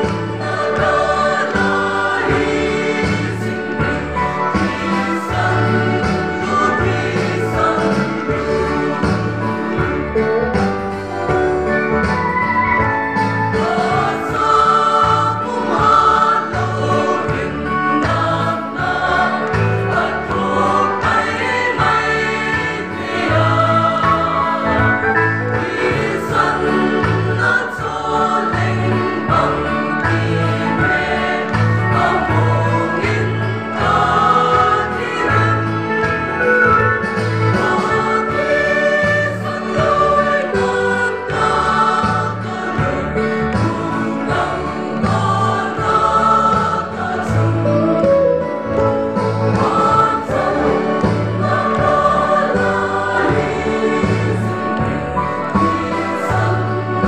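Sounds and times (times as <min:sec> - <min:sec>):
mixed choir singing hymn: 0:00.0 - 0:57.0.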